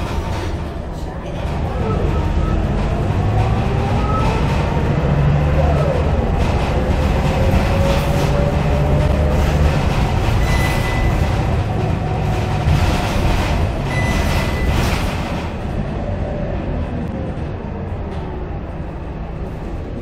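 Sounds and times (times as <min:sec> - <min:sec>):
bus diesel engine drone: 0:00.0 - 0:20.0
road and tyre noise: 0:00.0 - 0:20.0
engine whine: 0:01.5 - 0:20.0.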